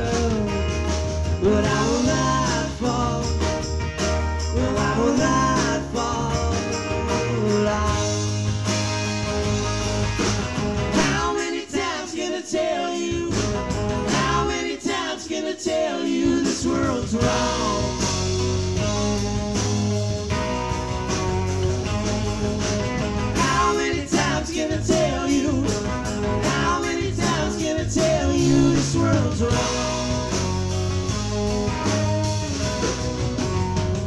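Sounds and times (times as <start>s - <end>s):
bending electric guitar lines: 0.0s - 11.4s, 16.9s - 34.0s
live rock band playing: 0.0s - 34.0s.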